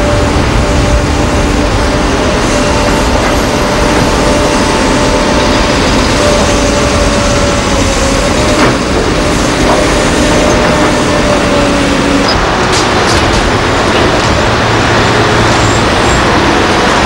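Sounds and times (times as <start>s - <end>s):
diesel machinery engine drone: 0.0s - 17.0s
steady hum: 0.0s - 17.0s.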